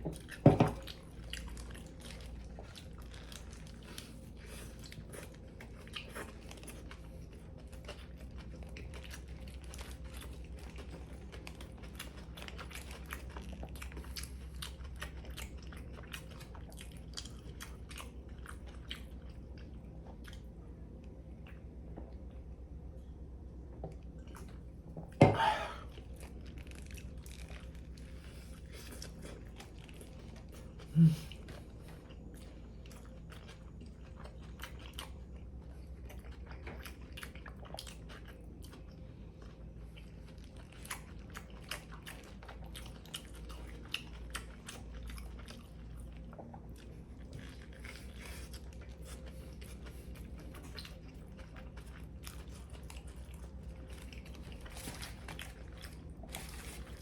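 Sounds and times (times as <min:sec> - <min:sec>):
chewing and biting sandwich: 0:00.0 - 0:22.9, 0:23.9 - 0:57.0.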